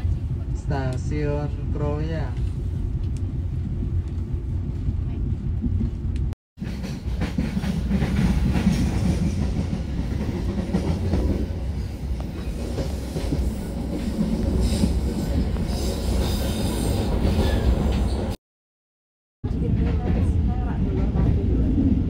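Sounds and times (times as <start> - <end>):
train wheels rumbling on rails: 0.0 - 18.4, 19.5 - 22.0.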